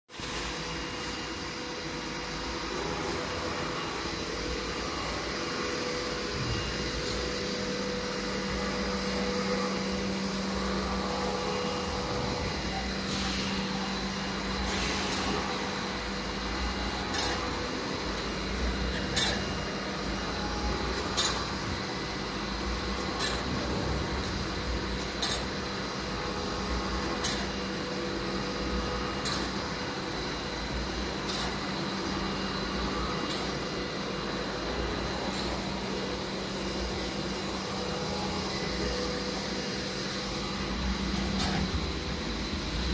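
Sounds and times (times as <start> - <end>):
pleating machine humming: 0.7 - 42.9.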